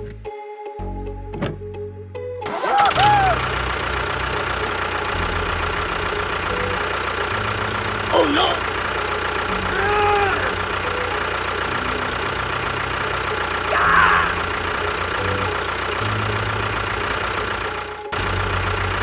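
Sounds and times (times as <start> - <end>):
engine chugging drone: 2.4 - 19.0.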